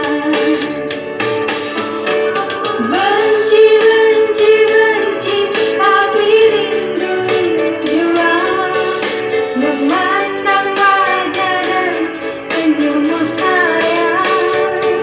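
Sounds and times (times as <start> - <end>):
woman singing: 0.0 - 0.8, 2.7 - 15.0
musical accompaniment: 0.0 - 15.0.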